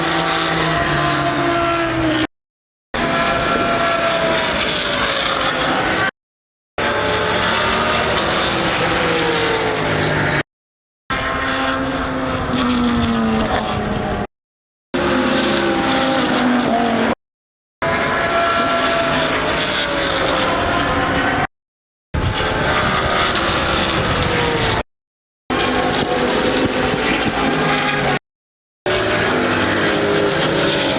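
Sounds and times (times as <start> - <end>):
racing cars passing at full throttle: 0.0 - 2.3, 3.0 - 6.1, 6.8 - 10.4, 11.1 - 14.3, 15.0 - 17.2, 17.8 - 21.5, 22.2 - 24.8, 25.5 - 28.2, 28.9 - 30.9.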